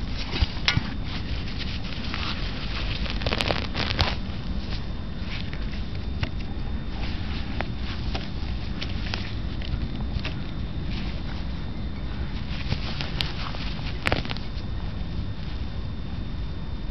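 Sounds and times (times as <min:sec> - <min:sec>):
rustling in dry grass: 0:00.0 - 0:16.2.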